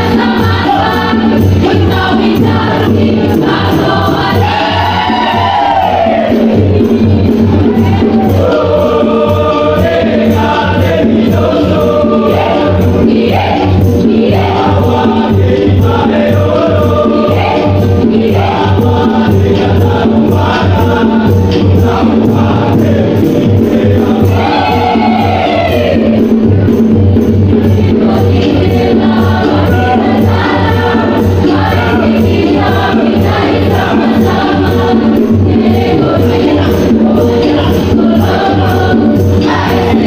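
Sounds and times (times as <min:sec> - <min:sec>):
mixed choir singing in harmony: 0:00.0 - 0:40.0
steady beat: 0:00.0 - 0:40.0.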